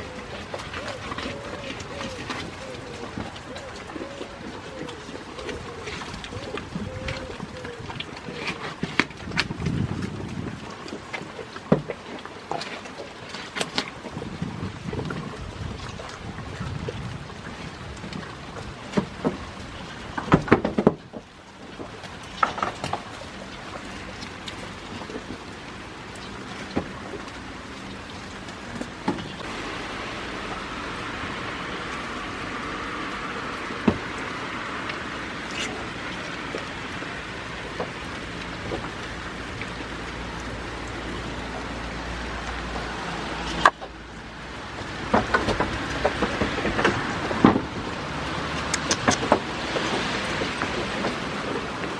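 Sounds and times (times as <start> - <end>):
goats chewing watermelon: 0.0 - 51.9
steady rain: 0.0 - 51.9.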